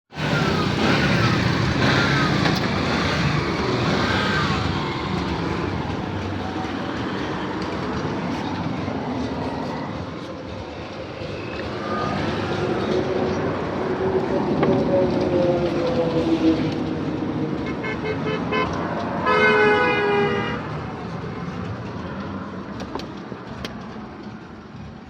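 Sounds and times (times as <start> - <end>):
engines and traffic rumbling: 0.1 - 25.0.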